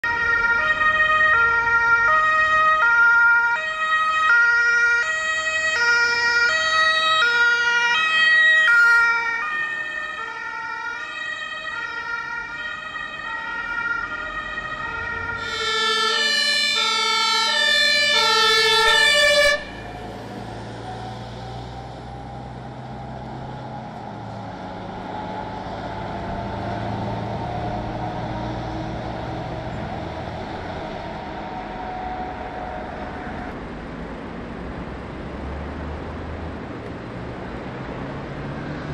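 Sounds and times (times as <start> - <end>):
two-tone emergency siren: 0.0 - 33.6.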